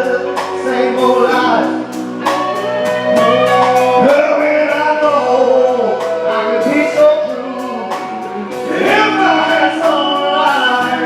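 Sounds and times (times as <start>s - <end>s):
band accompaniment: 0.0s - 11.0s
male vocal group singing: 0.0s - 11.0s.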